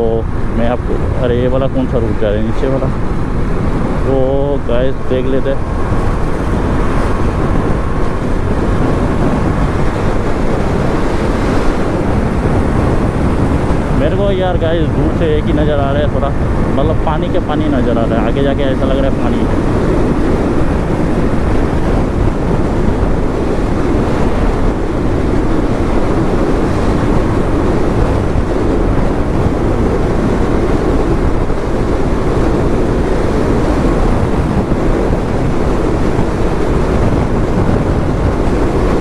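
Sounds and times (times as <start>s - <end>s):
motorcycle engine and road noise: 0.0s - 39.0s
wind rushing over microphone: 0.0s - 39.0s.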